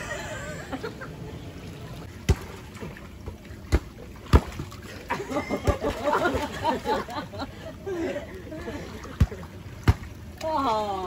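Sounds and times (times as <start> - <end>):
water splashing in pool: 1.4 - 11.0.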